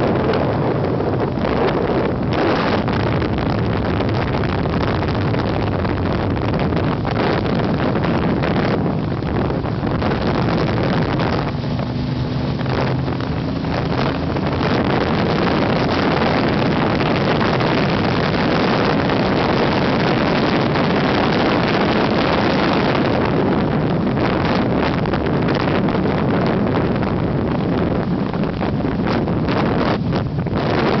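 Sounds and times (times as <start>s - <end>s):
motorcycle engine running: 0.0s - 31.0s
wind rushing over microphone: 0.0s - 31.0s.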